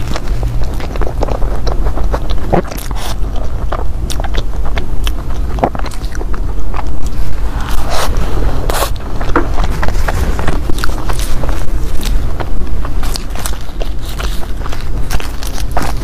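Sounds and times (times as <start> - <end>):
low hum: 0.0 - 16.0
person chewing flaky pastry: 0.0 - 16.0.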